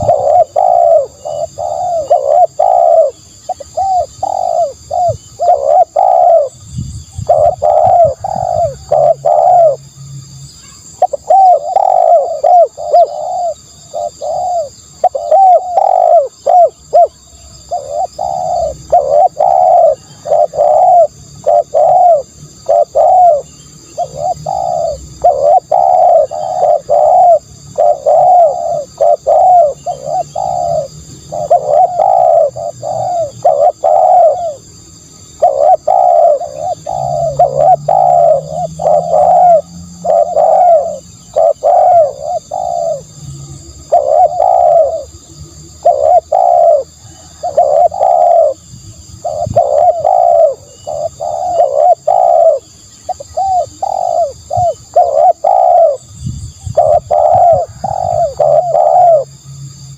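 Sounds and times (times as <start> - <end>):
doves cooing: 0.0 - 10.0, 10.7 - 59.5.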